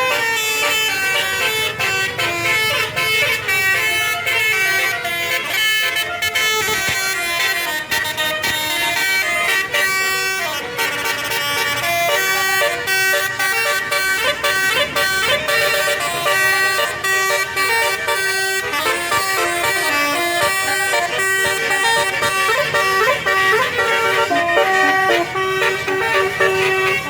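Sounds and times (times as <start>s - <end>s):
musical bus horn playing a tune: 0.0s - 27.0s.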